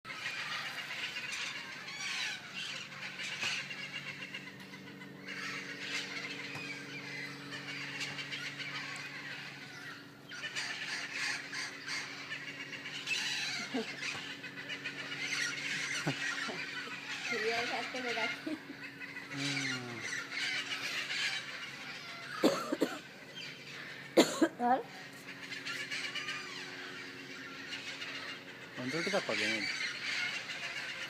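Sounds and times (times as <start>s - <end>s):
parrots squawking and chattering: 0.1s - 31.0s
steady low hum: 0.1s - 31.0s.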